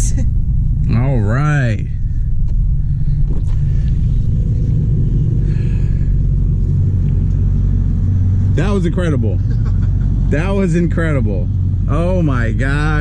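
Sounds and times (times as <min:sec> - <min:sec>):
engine and drivetrain rumbling: 0:00.0 - 0:13.0.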